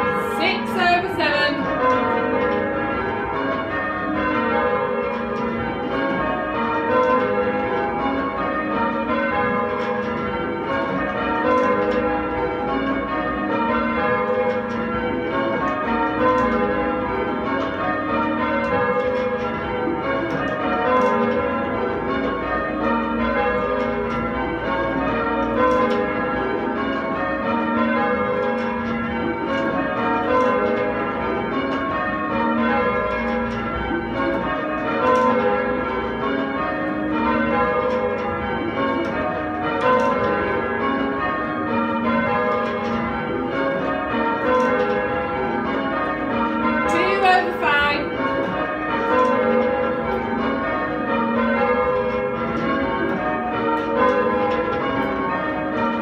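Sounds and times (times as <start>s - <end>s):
tower bells ringing changes: 0.0s - 56.0s.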